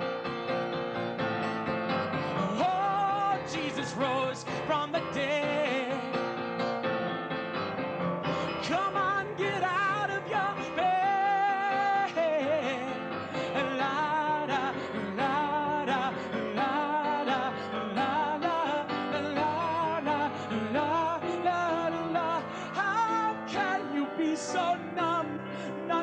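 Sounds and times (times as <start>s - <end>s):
instrumental accompaniment: 0.0s - 26.0s
man singing with vibrato: 2.2s - 6.4s, 8.2s - 26.0s.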